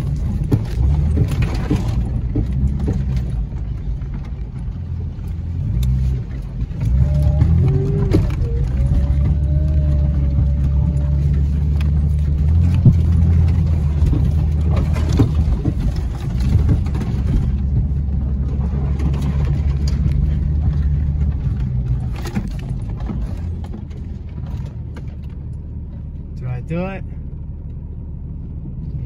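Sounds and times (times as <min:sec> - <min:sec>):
knocks and rattles over bumps: 0:00.0 - 0:26.5
engine rumble inside vehicle: 0:00.0 - 0:29.0.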